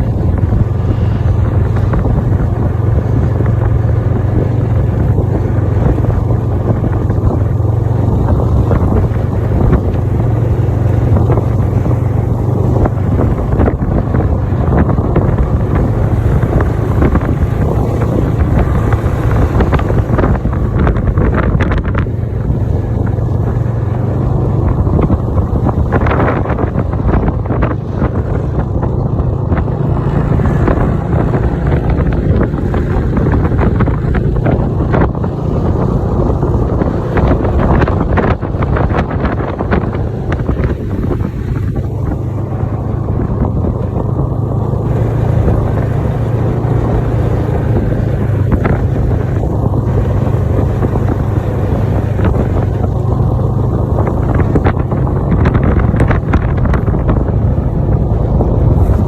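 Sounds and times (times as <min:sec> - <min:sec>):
snowmobile engine running: 0:00.0 - 0:59.0
wind on microphone: 0:00.0 - 0:59.0.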